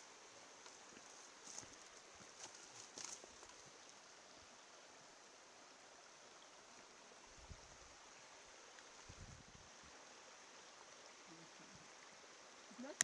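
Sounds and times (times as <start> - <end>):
faint mountain stream rushing: 0.0 - 13.0.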